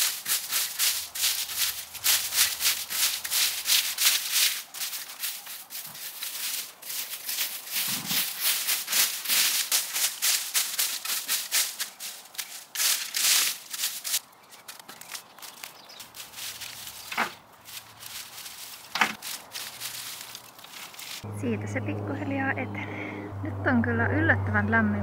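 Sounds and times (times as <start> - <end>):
rake scraping twigs and leaves: 0.0 - 21.3.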